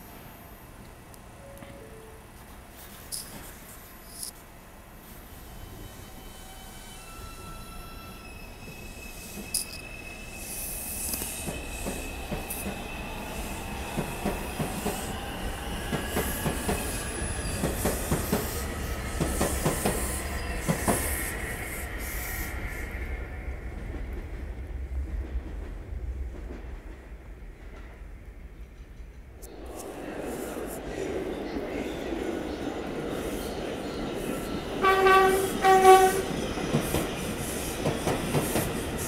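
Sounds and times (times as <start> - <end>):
subway train wheels squealing: 0.0 - 2.3, 3.1 - 25.2, 27.3 - 39.0.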